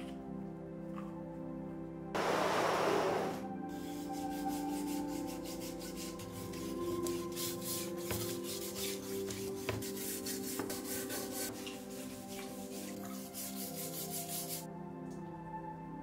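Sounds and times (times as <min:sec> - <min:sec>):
soft background music: 0:00.0 - 0:02.2, 0:02.9 - 0:16.0.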